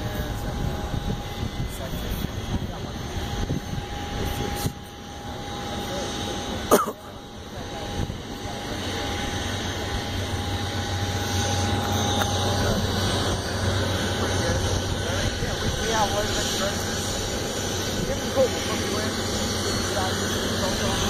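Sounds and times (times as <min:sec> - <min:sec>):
jet engine roar with whine: 0:00.0 - 0:21.0.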